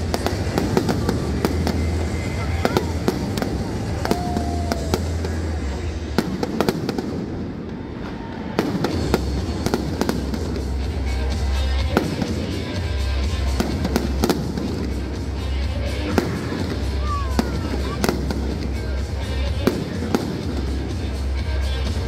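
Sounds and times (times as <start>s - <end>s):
loud music with heavy bass: 0.0s - 7.4s, 8.7s - 22.0s
fireworks bangs and crackles: 0.0s - 22.0s.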